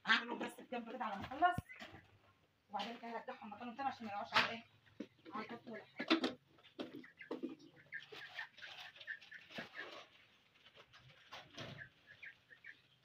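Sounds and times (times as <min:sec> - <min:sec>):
poultry peeping: 0:00.0 - 0:13.0.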